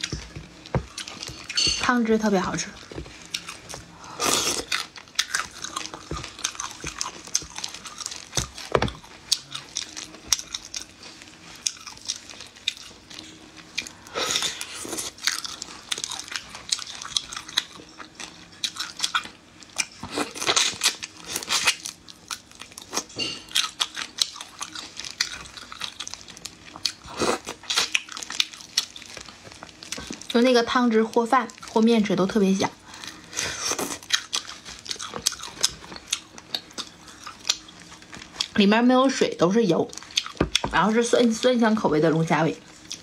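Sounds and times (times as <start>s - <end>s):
chewing: 0.0s - 1.9s, 2.6s - 30.4s, 32.7s - 38.6s, 39.9s - 41.5s, 42.6s - 43.0s.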